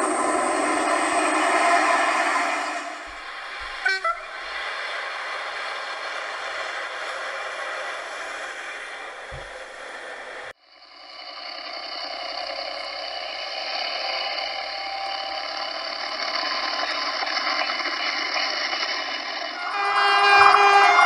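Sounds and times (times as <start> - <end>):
model train whirring: 0.0 - 21.0.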